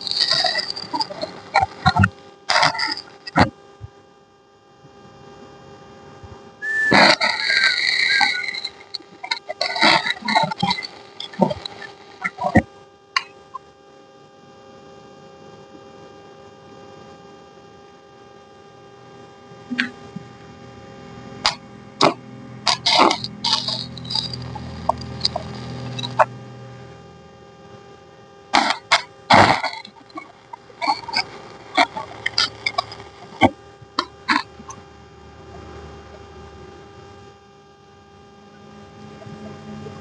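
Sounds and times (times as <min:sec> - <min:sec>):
steady hum: 0:00.0 - 0:40.0.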